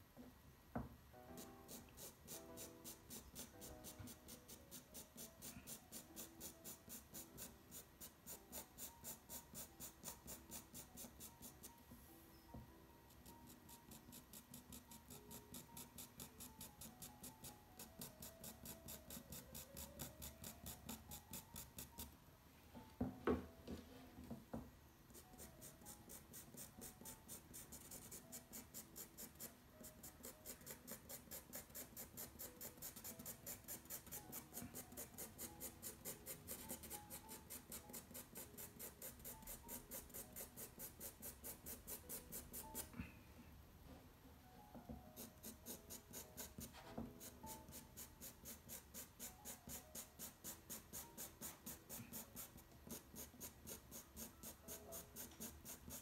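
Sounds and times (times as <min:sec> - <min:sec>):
faint background music: 0:00.0 - 0:56.0
pencil strokes on paper: 0:01.2 - 0:22.2, 0:25.1 - 0:43.0, 0:44.9 - 0:56.0.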